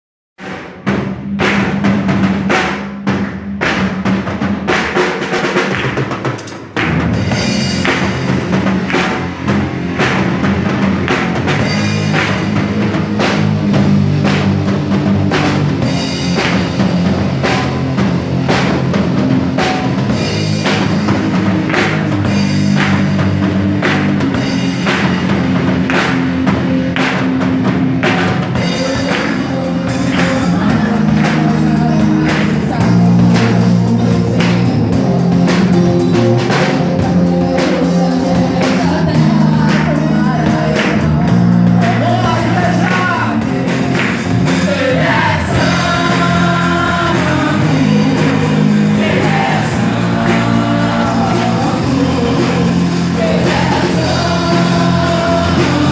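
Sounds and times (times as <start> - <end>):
drum kit beat: 0.4 - 55.9
sustained low bass chords: 7.2 - 55.9.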